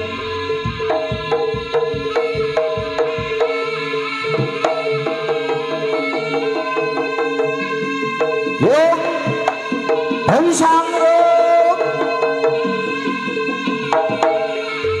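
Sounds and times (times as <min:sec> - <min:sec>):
ringing pitched gamelan tones: 0:00.0 - 0:15.0.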